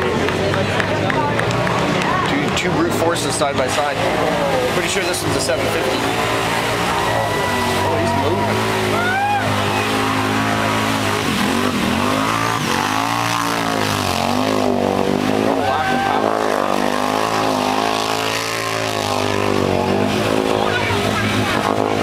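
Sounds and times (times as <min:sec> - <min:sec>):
quad churning through mud: 0:00.0 - 0:22.0
quad engine revving: 0:00.0 - 0:22.0.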